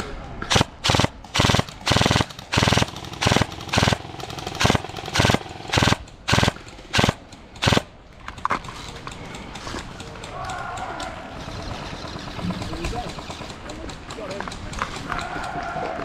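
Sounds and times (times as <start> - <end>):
faint scattered clicks: 0.4 - 16.0
airsoft gun rapid-fire bursts: 0.5 - 15.0.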